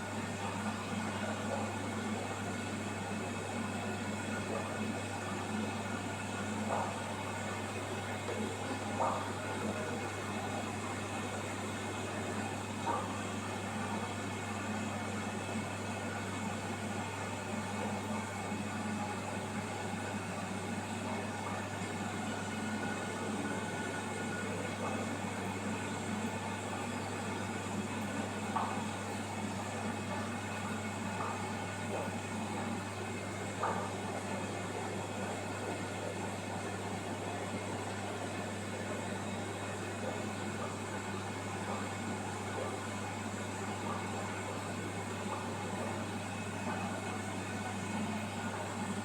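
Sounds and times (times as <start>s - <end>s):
aquarium filter humming: 0.0s - 49.0s.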